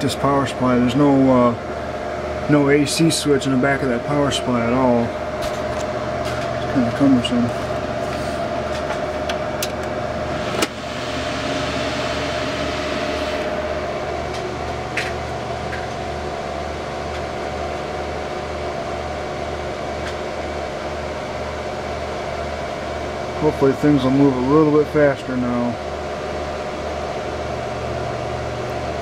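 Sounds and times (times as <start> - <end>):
computer fans whirring: 0.0 - 29.0.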